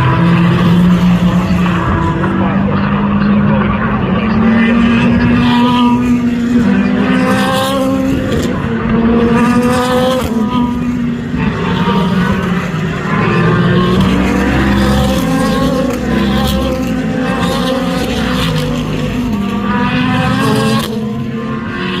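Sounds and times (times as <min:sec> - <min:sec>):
engine drone: 0:00.0 - 0:22.0
race car engines accelerating: 0:00.0 - 0:22.0.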